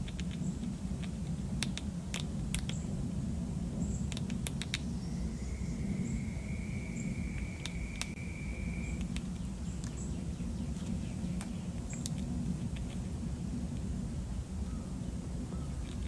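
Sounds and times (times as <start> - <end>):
squirrel gnawing corn: 0.0 - 4.9, 7.2 - 14.4, 15.3 - 16.0
low background rumble: 0.0 - 16.0.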